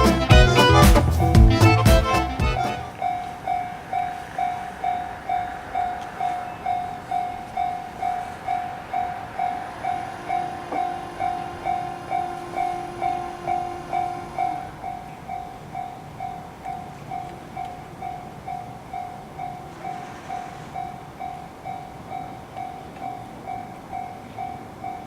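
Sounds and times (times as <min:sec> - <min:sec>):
level crossing warning bell: 0:02.9 - 0:25.0.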